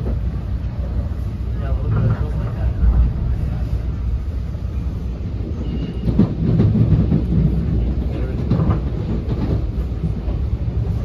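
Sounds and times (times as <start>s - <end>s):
train clatter: 0.0s - 11.0s
wheels rumbling on rails: 0.0s - 11.0s.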